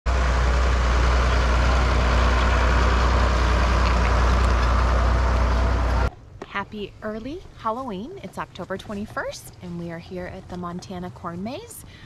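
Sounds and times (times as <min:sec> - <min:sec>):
tractor engine running: 0:00.1 - 0:11.7.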